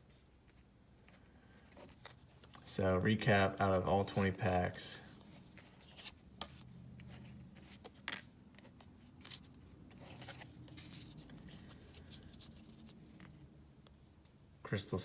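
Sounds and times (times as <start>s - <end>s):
trading cards rustling: 0.0s - 14.4s.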